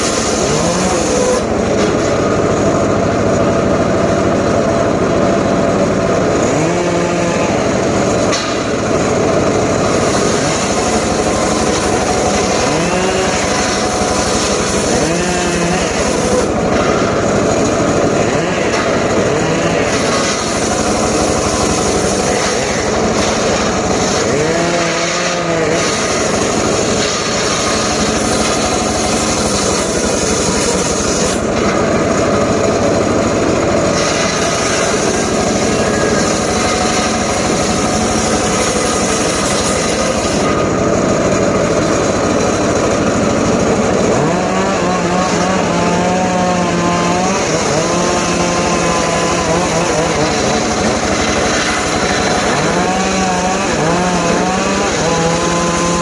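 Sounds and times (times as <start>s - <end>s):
engine-driven saw cutting wood: 0.0s - 56.0s.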